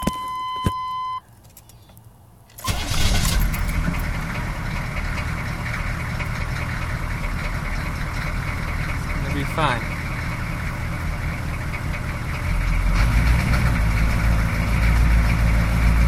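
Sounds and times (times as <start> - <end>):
diesel engine cranking and running: 2.5 - 16.0.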